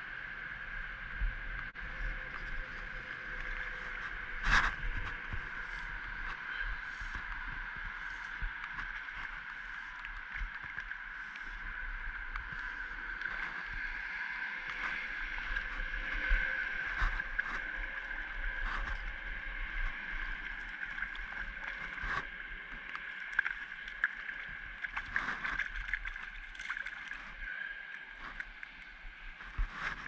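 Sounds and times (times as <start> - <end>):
rain falling on lake: 0.1 - 14.0, 14.6 - 29.9.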